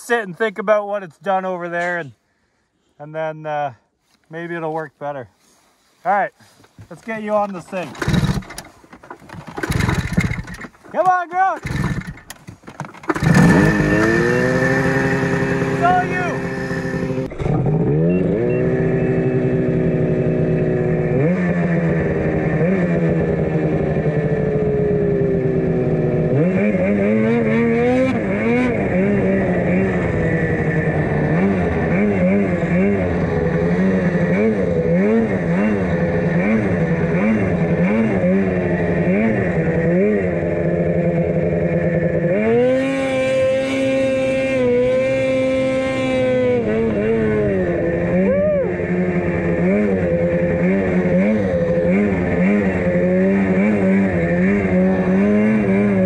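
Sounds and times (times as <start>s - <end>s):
snowmobile engine revving: 7.0s - 8.7s, 9.5s - 12.3s, 13.0s - 56.0s.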